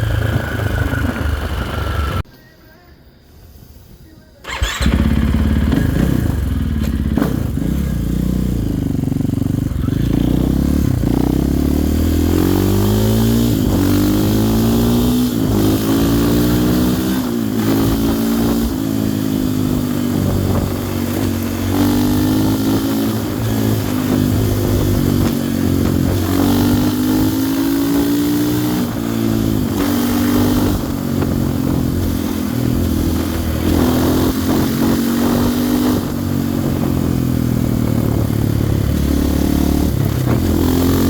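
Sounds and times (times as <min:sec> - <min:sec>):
dirt bike engine accelerating: 0:00.0 - 0:02.2, 0:04.4 - 0:41.0.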